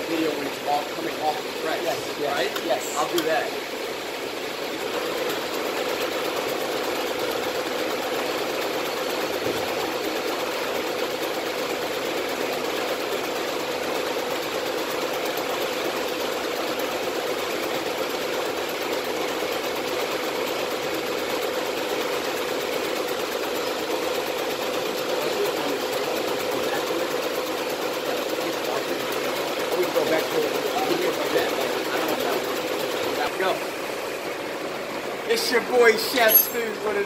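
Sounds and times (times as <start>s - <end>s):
embroidery machine stitching: 0.0s - 37.0s.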